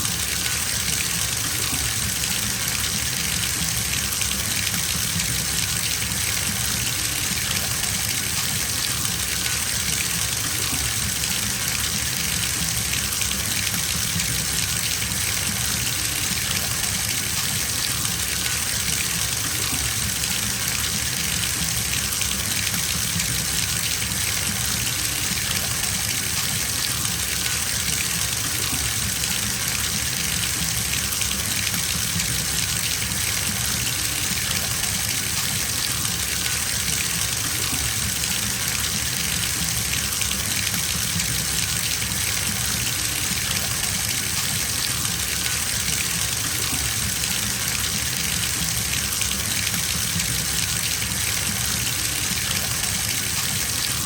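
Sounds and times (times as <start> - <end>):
water gushing into bathtub: 0.0 - 54.0.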